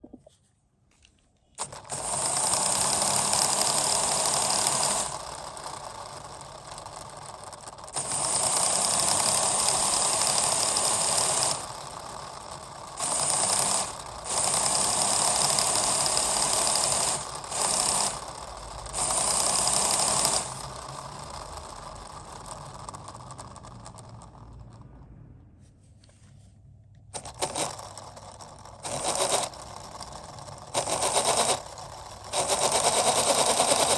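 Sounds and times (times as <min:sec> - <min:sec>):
plastic ratchet gears clicking: 0:01.6 - 0:24.8, 0:27.2 - 0:33.9.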